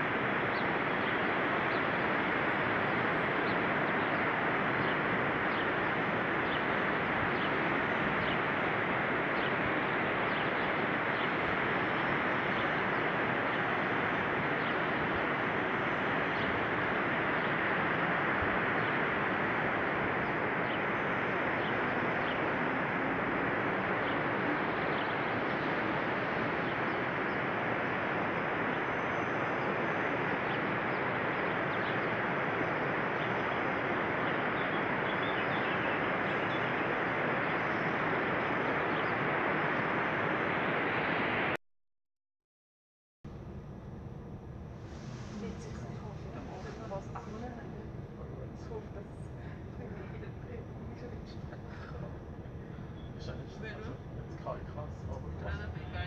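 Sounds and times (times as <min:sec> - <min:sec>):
small birds chirping: 0:00.0 - 0:39.8, 0:44.8 - 0:56.0.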